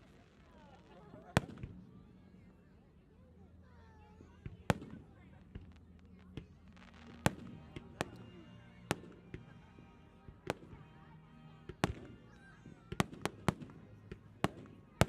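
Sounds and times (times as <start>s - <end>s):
fireworks bursting with sharp bangs: 0.0s - 2.5s, 4.2s - 15.0s.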